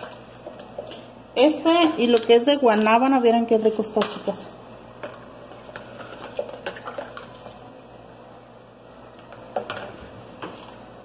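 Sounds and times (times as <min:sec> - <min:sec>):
liquid sloshing: 0:00.0 - 0:07.9, 0:09.0 - 0:10.7.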